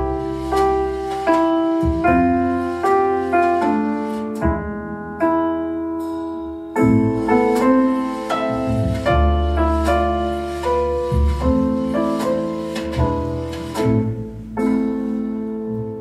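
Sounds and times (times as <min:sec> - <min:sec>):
piano chords and bass notes: 0:00.0 - 0:16.0.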